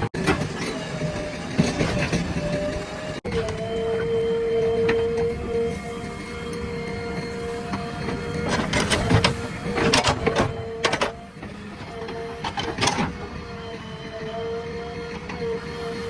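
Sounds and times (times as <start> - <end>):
loader engine humming and whining: 0.0 - 16.0.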